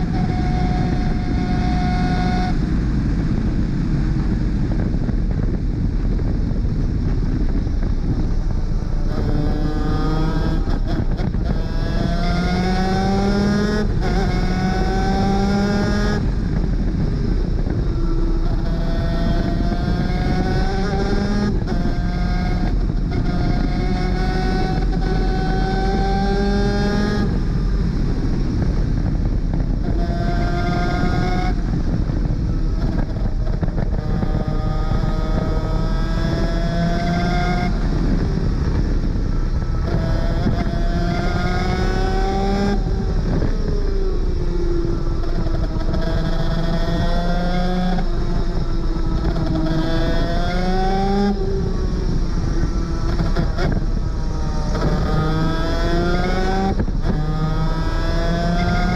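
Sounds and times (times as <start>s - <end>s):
constant rushing noise: 0.0s - 58.9s.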